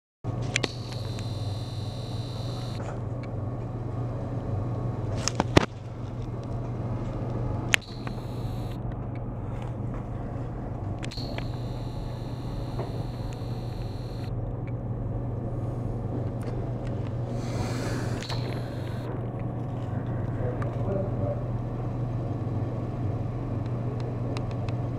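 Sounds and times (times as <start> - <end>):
low mechanical hum: 0.3 - 24.9
outdoor background noise: 0.3 - 24.9.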